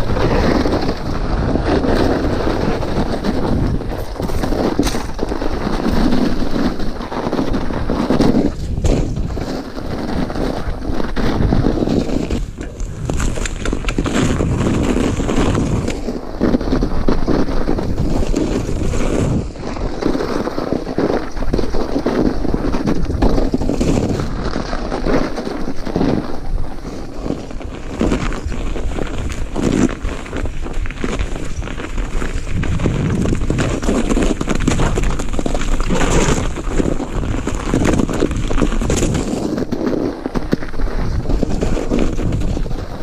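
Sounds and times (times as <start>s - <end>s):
bike knocking and rattling: 0.0s - 43.0s
bike tyres rolling on snow: 0.0s - 43.0s
wind buffeting microphone: 0.0s - 43.0s.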